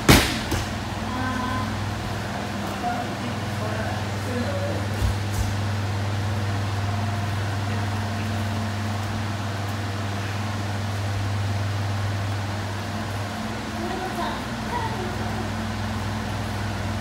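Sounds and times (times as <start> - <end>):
electric fans humming: 0.0 - 17.0.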